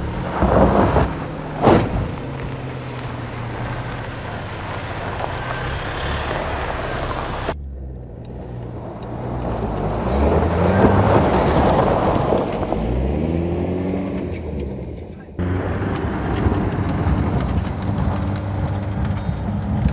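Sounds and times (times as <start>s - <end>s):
tyres churning loose dirt: 0.0s - 7.6s, 8.2s - 19.9s
truck engine under load: 0.0s - 19.9s.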